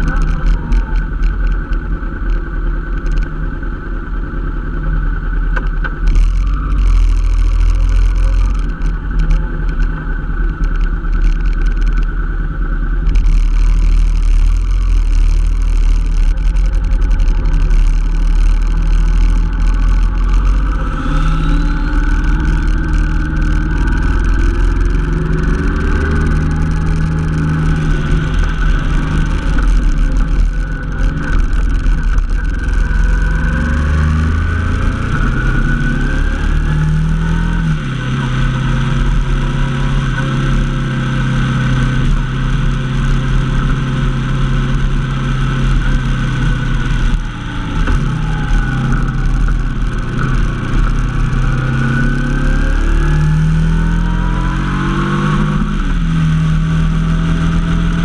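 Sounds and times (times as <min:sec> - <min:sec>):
motorcycle engine: 0:00.0 - 0:58.0
wind rumble on microphone: 0:00.0 - 0:58.0.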